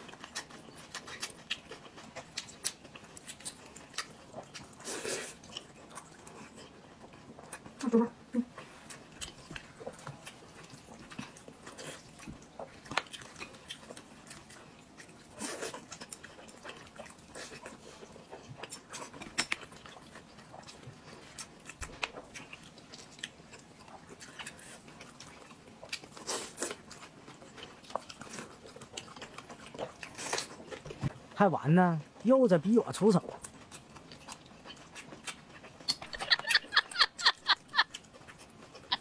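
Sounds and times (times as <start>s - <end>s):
person chewing soft food: 0.0s - 39.0s.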